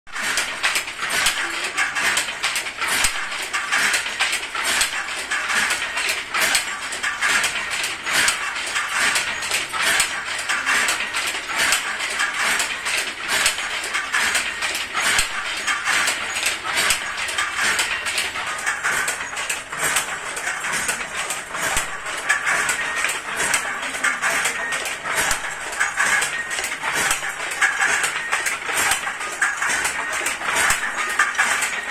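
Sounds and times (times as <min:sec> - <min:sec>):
handloom clattering: 0:00.1 - 0:31.9.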